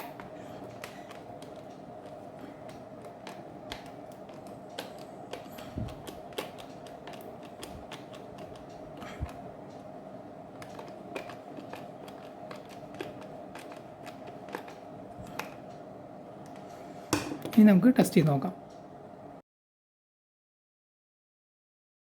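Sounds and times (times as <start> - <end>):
steady faint hum: 0.0 - 19.4.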